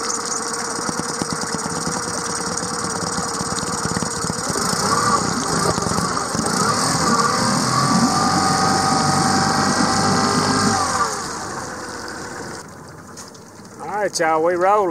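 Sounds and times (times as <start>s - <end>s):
outboard motor idling: 0.0s - 14.9s.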